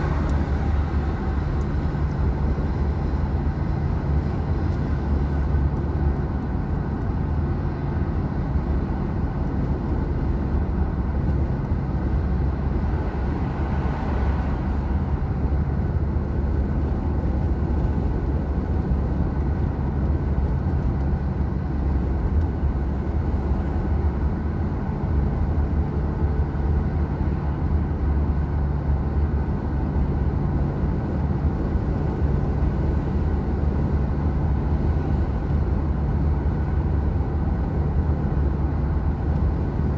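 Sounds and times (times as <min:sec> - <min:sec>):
tyres rumbling on asphalt: 0:00.0 - 0:39.9.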